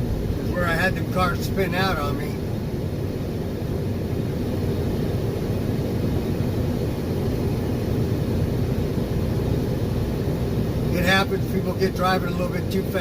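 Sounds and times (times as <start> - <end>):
truck engine and tyre noise: 0.0 - 13.0.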